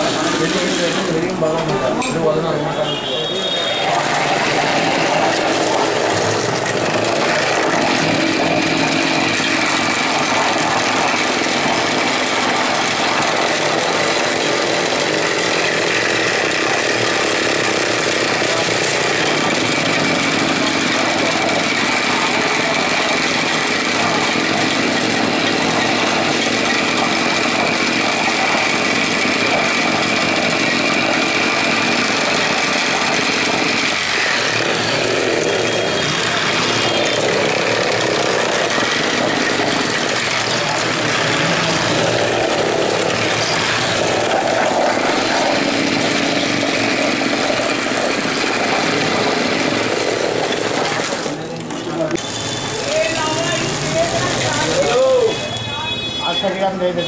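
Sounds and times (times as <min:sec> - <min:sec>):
electric churner motor running: 0:00.0 - 0:02.8, 0:03.4 - 0:56.4.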